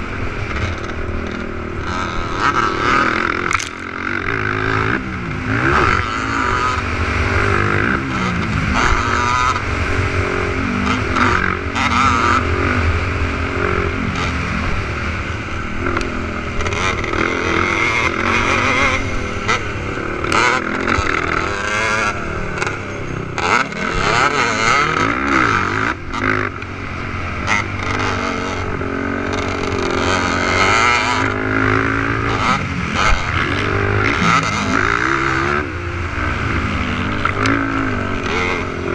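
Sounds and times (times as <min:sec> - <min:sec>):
quad engines revving: 0:00.0 - 0:38.9.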